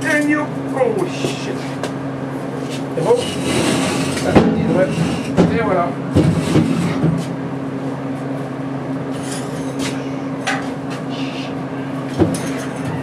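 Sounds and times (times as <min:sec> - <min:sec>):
electrical hum of shop equipment: 0:00.0 - 0:13.0.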